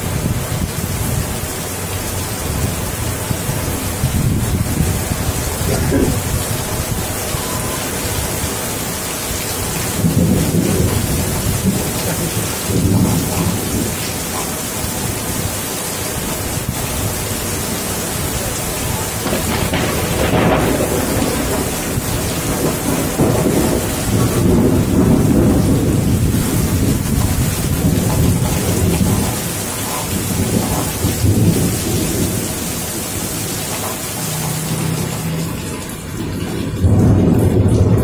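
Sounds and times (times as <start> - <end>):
heavy rain: 0.0 - 38.0
thunder rumbling: 0.0 - 38.0.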